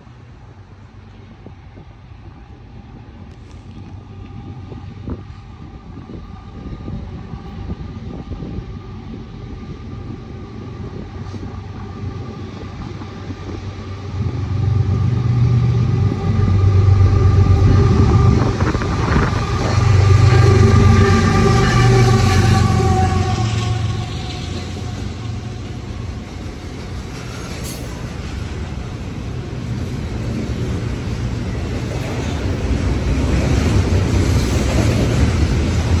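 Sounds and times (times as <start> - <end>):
diesel locomotive engine rumble: 0.0 - 36.0.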